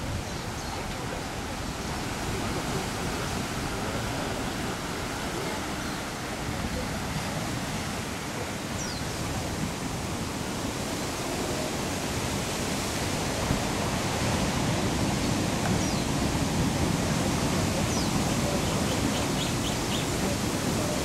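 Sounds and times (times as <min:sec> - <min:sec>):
surf breaking over rocks: 0:00.0 - 0:21.0.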